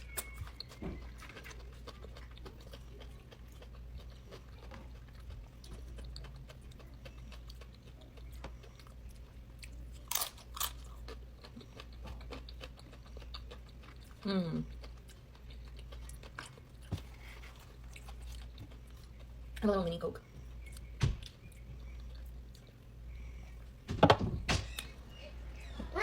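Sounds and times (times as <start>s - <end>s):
chewing food with crunches: 0.0s - 23.7s
low steady hum: 0.0s - 26.0s.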